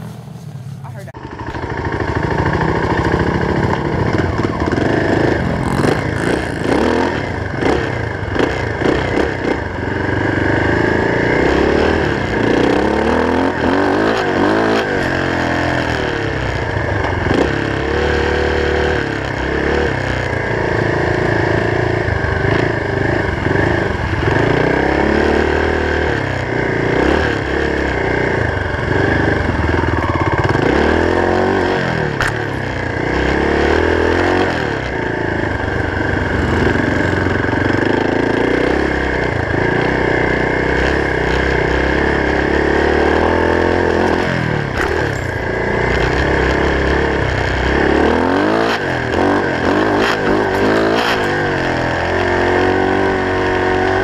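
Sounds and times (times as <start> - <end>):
off-road engine revving: 0.8 - 54.0.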